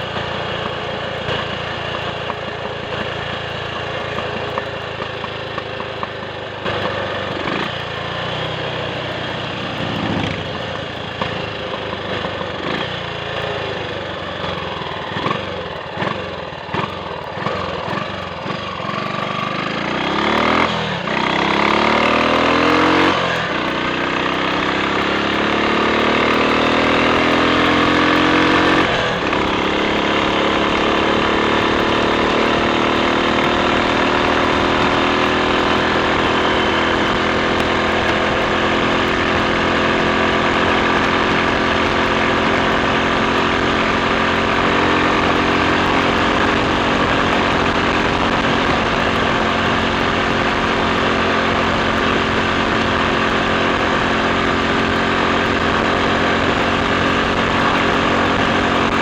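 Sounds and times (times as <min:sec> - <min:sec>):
motorcycle engine under load: 0:00.0 - 0:59.0.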